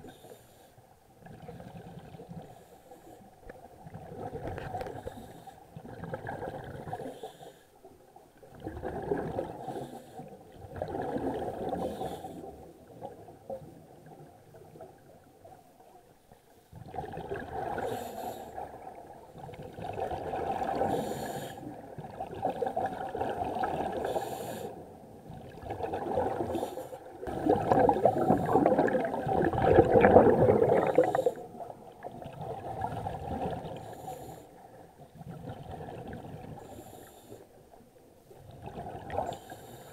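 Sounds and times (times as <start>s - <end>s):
exhaled bubbles gurgling underwater: 1.1s - 39.9s.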